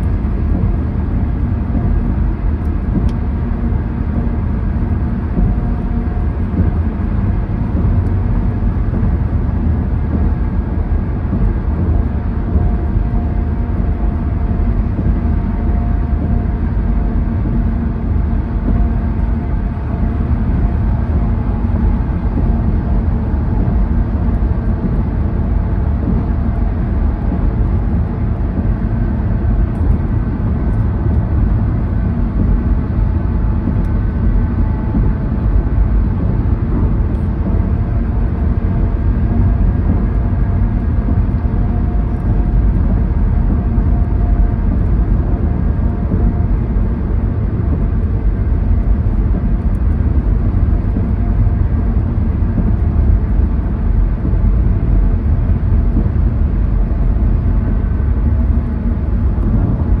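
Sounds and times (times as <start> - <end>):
car engine drone: 0.0 - 60.0
road and tyre noise: 0.0 - 60.0.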